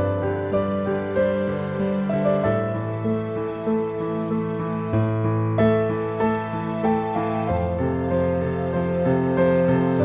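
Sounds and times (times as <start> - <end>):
slow sad background music: 0.0 - 10.0.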